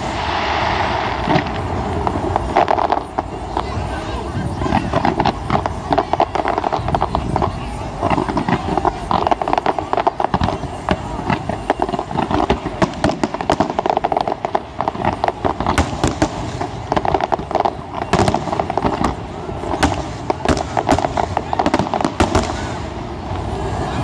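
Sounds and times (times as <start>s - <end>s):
fireworks cracking and banging: 0.0s - 24.0s.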